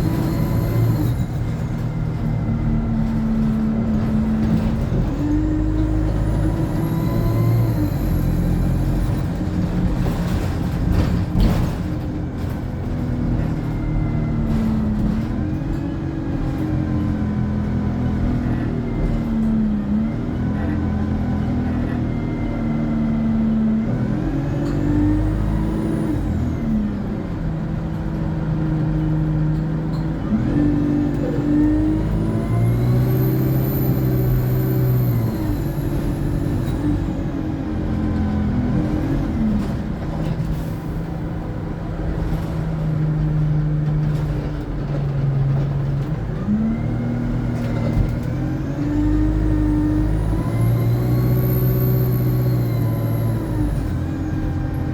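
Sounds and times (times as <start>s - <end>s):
bus engine pulling away: 0.0s - 54.9s.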